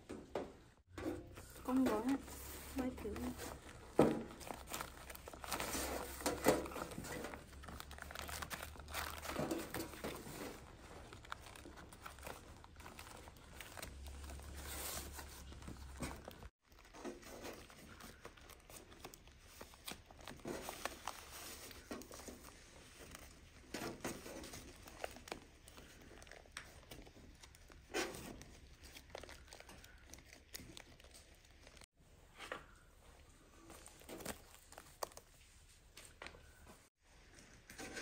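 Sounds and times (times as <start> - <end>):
wrapping crinkling and rustling: 0.8 - 32.0, 32.6 - 38.0.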